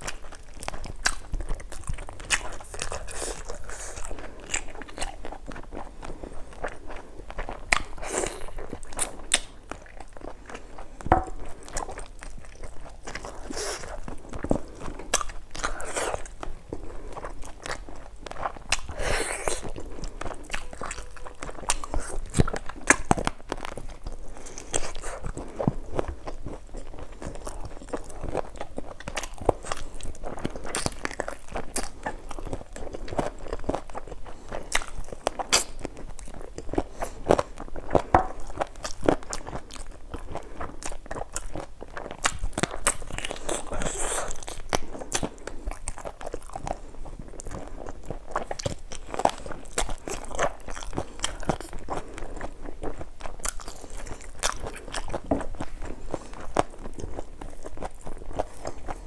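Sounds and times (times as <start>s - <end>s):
person biting and chewing meat: 0.0s - 59.0s.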